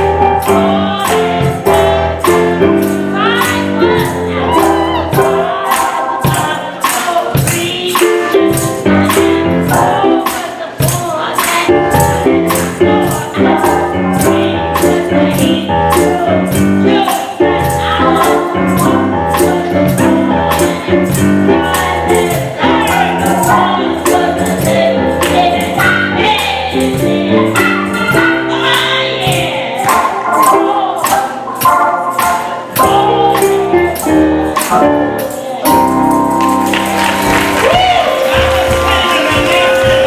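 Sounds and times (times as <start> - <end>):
gospel singing: 0.0 - 40.0
tambourine on the beat: 0.0 - 40.0.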